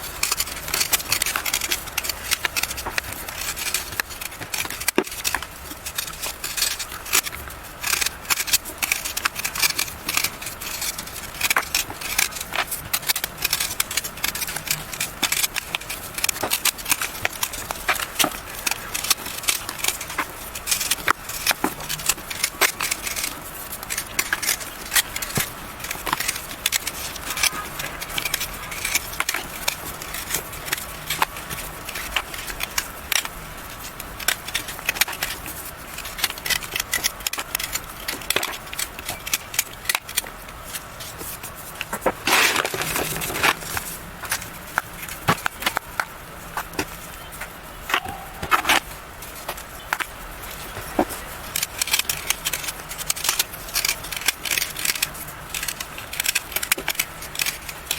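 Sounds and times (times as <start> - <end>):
chalk being crushed: 0.0 - 57.9.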